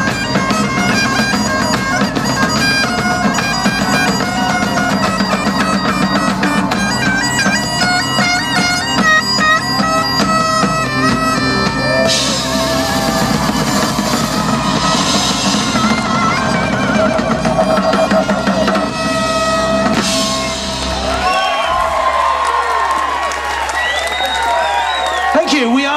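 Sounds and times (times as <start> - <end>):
bagpipes playing: 0.0 - 21.8
drums: 0.0 - 25.9.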